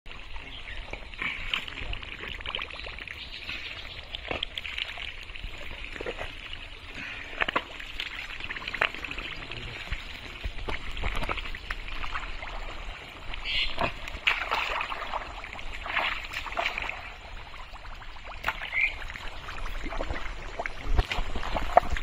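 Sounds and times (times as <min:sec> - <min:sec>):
water splats and drips: 0:00.1 - 0:22.0
mud squelching and sloshing: 0:00.2 - 0:22.0.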